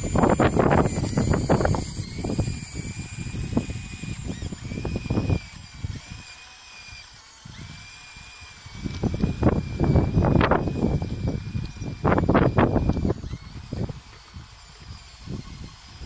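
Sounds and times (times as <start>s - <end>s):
wind on microphone: 0.0s - 6.3s, 6.9s - 16.0s
toy bulldozer motors whining: 0.0s - 16.0s.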